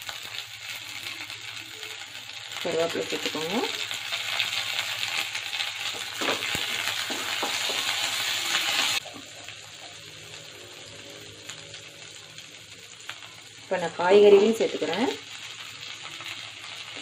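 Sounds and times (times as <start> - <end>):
leaves frying in hot oil: 0.0 - 17.0.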